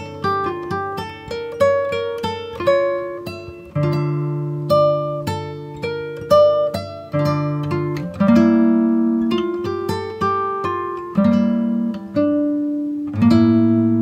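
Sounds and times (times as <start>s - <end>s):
acoustic guitar plucking chords: 0.0s - 14.0s.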